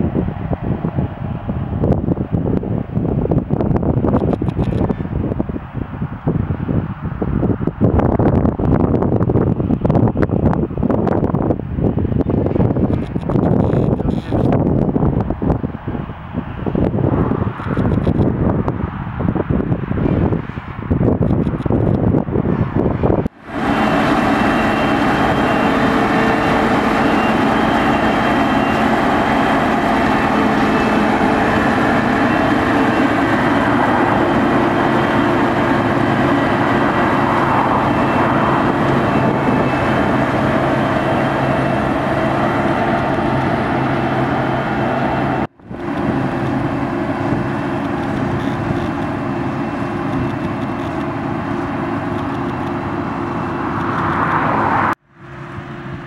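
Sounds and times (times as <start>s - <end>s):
harvesting machinery diesel drone: 0.0s - 18.9s, 19.8s - 56.0s.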